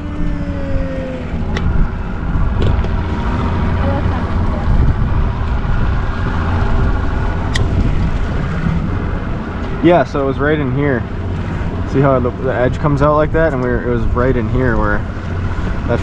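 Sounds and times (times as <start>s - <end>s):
boat motor running: 0.0s - 16.0s
wind noise on microphone: 0.0s - 16.0s.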